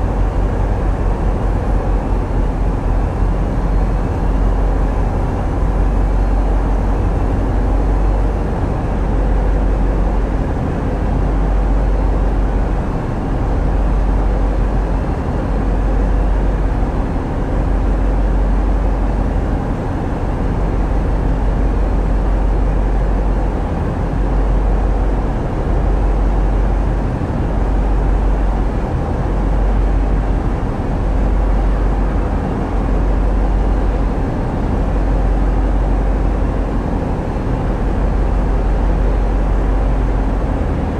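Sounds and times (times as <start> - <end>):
diesel engines rumbling: 0.0 - 40.9.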